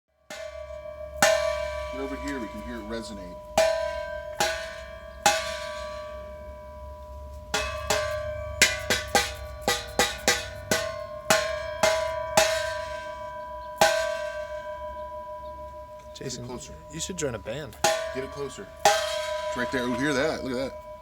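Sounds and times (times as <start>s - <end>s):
exhaust struck ringing like bell: 0.1s - 21.0s.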